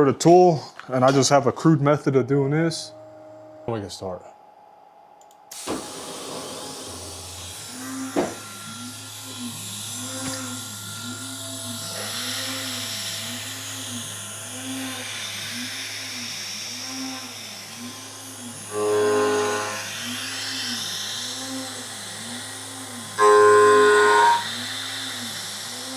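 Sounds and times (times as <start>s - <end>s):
spindle whirring with low hum: 0.0s - 25.9s.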